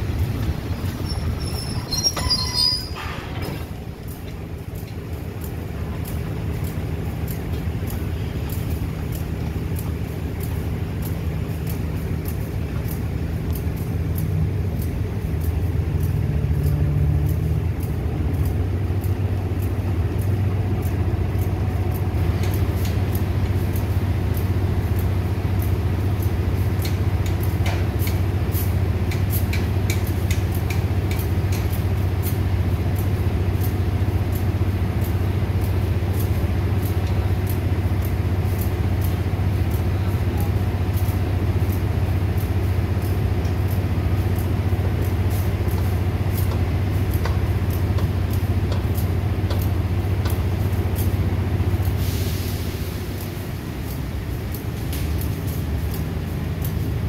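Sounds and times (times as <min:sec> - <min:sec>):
train diesel engine idling: 0:00.0 - 0:57.0
faint rapid ticks: 0:04.0 - 0:52.0.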